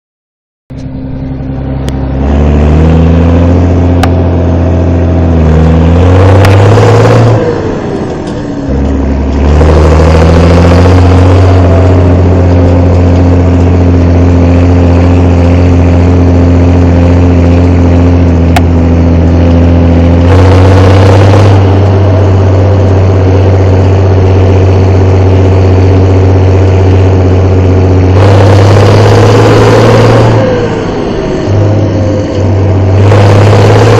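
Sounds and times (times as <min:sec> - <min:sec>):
tractor diesel engine revving: 0:00.7 - 0:33.9.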